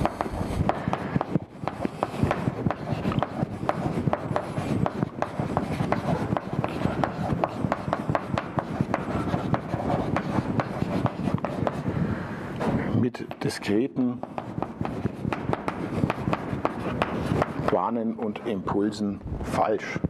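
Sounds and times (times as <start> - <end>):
chalk tapping and scratching: 0.0 - 18.6.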